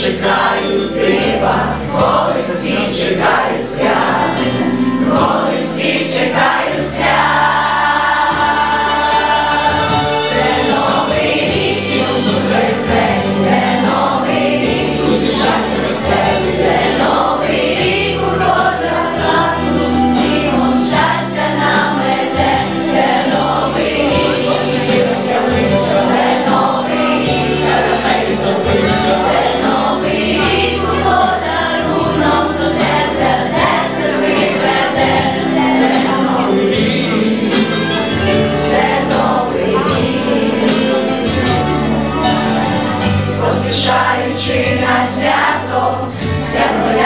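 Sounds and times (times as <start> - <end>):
backing track with steady beat: 0.0 - 47.0
children's choir singing: 0.0 - 47.0.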